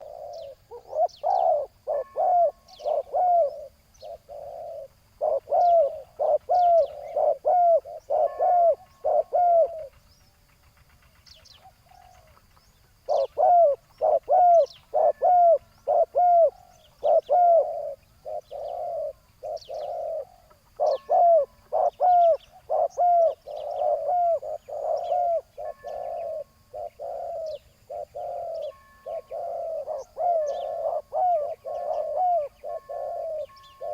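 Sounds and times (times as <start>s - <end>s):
doves cooing: 0.0s - 10.1s, 10.7s - 33.9s
small birds chirping: 0.0s - 33.9s.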